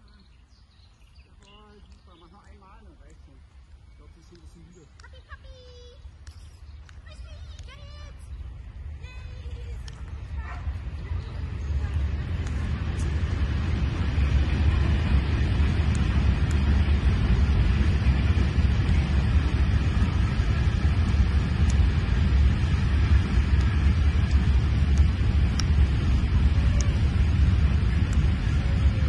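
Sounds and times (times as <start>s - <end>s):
wind buffeting microphone: 3.3s - 29.0s.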